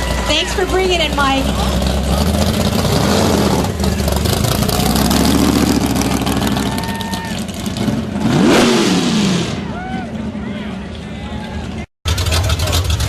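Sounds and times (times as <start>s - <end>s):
loud car engine rumbling: 0.0s - 13.0s.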